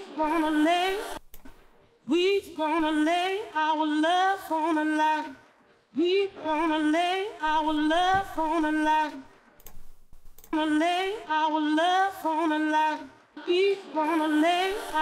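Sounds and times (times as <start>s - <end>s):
person singing: 0.0s - 1.2s, 2.1s - 5.4s, 6.0s - 9.3s, 10.5s - 15.0s.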